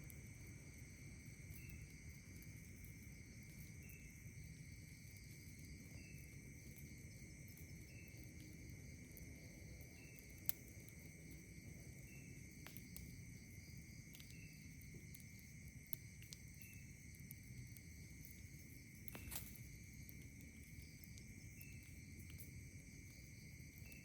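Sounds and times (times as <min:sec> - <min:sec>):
campfire crackling and popping: 0:00.0 - 0:24.0
night insects chorus: 0:00.0 - 0:24.0.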